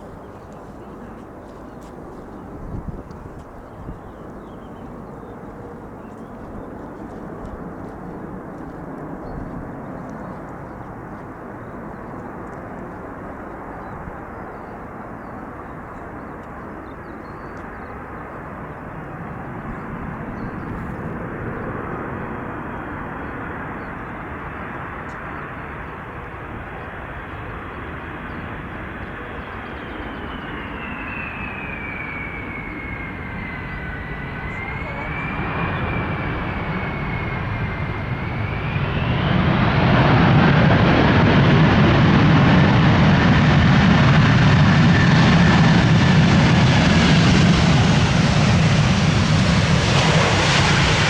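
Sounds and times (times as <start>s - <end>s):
airliner engines rushing: 0.0s - 51.0s.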